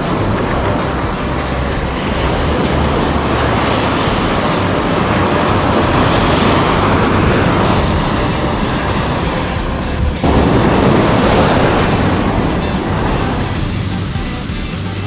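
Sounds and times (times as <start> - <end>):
wave breaking and washing in: 0.0 - 14.4
ocean surf: 0.0 - 15.0
wind: 0.0 - 15.0.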